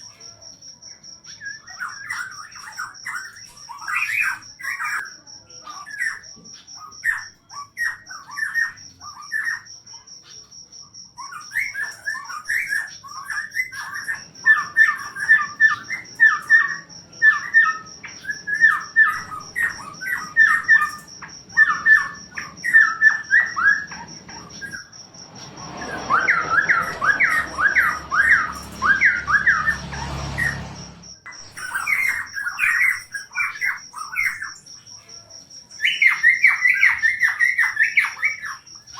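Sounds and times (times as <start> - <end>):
cricket trilling: 0.0 - 38.9
songbird chattering song: 1.2 - 38.9.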